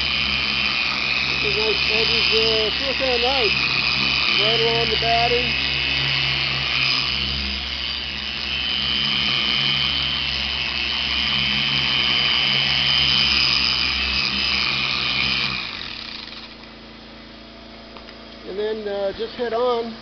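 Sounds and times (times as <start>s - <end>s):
car buffer motor whining: 0.0s - 18.4s.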